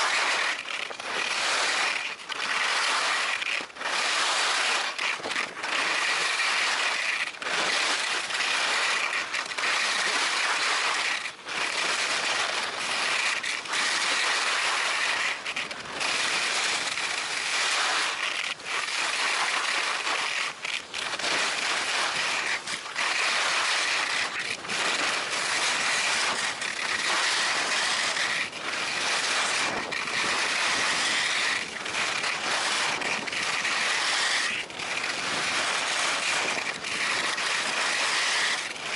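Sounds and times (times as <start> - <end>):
skis carving over packed snow: 0.0 - 38.9.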